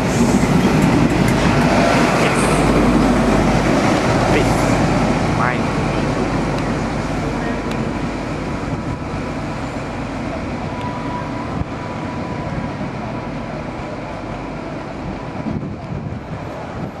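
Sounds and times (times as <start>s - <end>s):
diesel train rumble: 0.0s - 17.0s.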